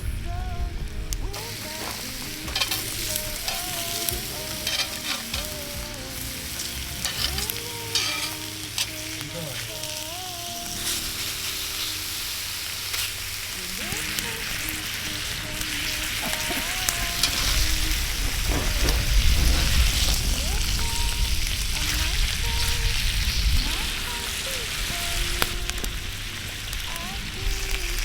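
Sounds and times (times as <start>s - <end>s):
soft background music: 0.0s - 28.0s
wood fire crackling and popping: 0.0s - 28.0s.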